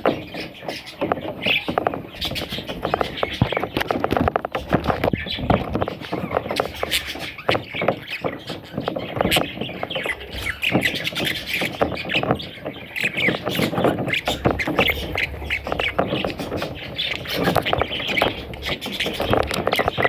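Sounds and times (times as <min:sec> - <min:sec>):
budgerigar chicks squawking: 0:00.0 - 0:20.0.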